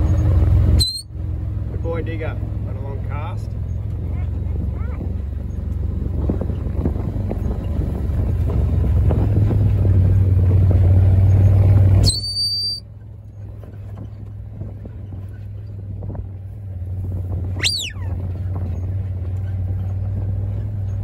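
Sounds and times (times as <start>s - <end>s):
vehicle engine from inside cab: 0.0s - 21.0s.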